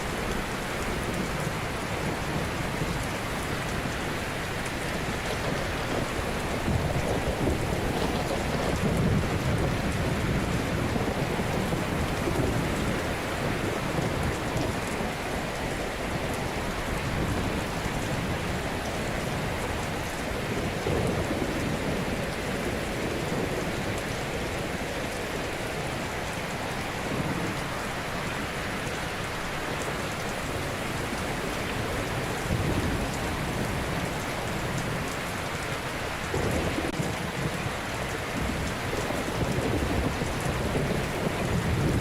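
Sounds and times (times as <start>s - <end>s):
ocean surf: 0.0s - 42.0s.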